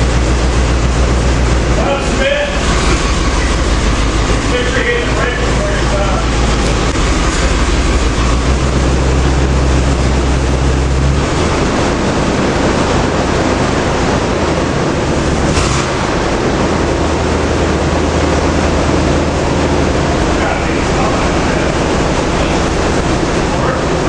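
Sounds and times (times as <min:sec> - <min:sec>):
loud even rushing noise: 0:00.0 - 0:24.0
truck engine droning: 0:00.0 - 0:24.0.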